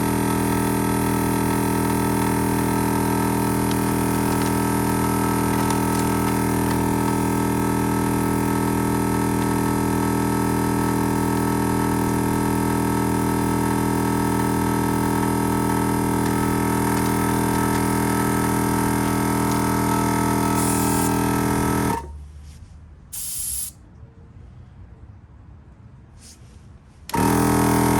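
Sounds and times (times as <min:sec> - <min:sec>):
air compressor humming: 0:00.0 - 0:22.2, 0:23.2 - 0:23.8, 0:27.0 - 0:27.9.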